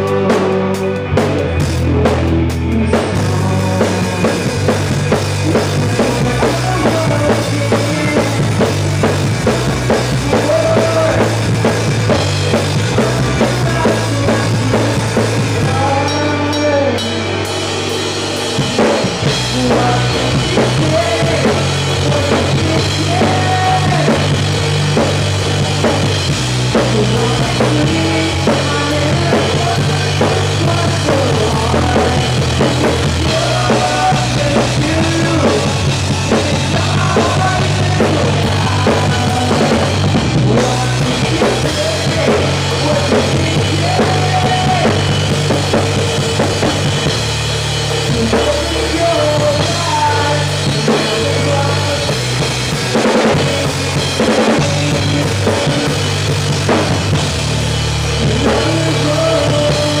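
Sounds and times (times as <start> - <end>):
bass guitar notes: 0.0 - 60.0
drum kit played hard: 0.0 - 60.0
rock band playing: 0.0 - 60.0.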